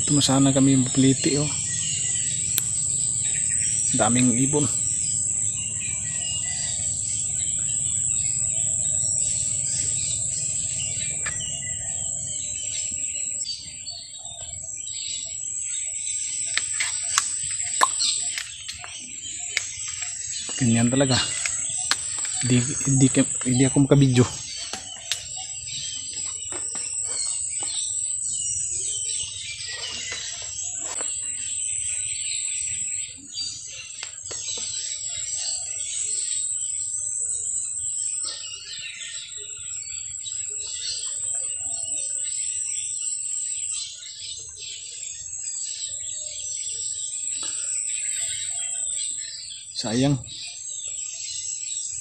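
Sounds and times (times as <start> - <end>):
birds chirping and trilling: 0.0 - 52.0
high-pitched insect drone: 0.0 - 52.0.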